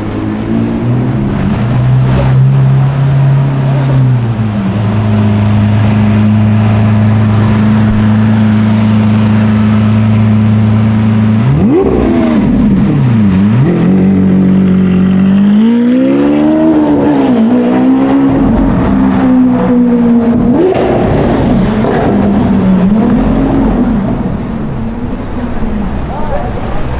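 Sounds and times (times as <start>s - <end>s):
sports car engine revving: 0.0s - 25.9s.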